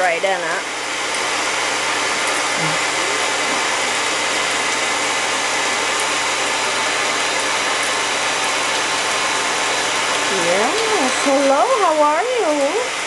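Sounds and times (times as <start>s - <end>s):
shower spray into bathtub: 0.0s - 13.0s.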